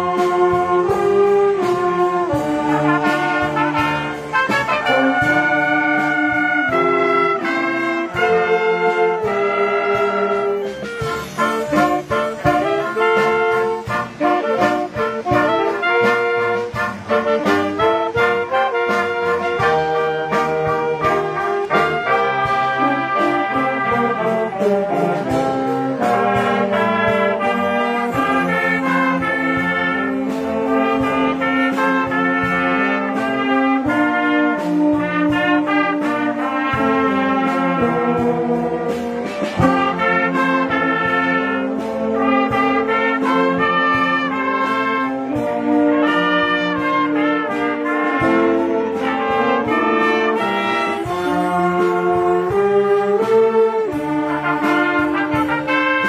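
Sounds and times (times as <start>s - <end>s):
school brass band playing: 0.0s - 56.0s.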